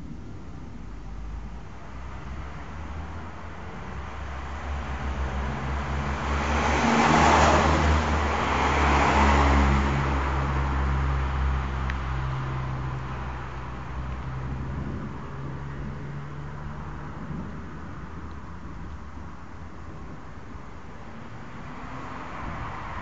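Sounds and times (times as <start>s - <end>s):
thunder rumbling: 0.0s - 22.8s.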